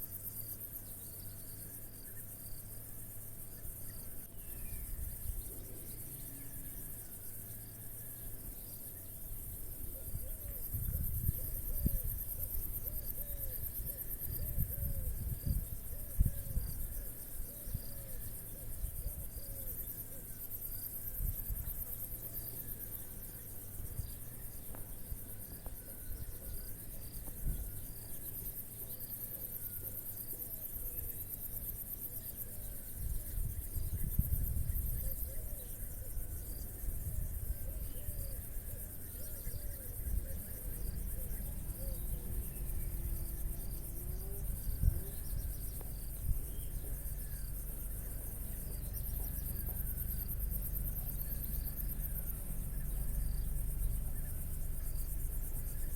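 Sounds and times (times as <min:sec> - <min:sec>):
crickets chirring: 0:00.0 - 0:55.9.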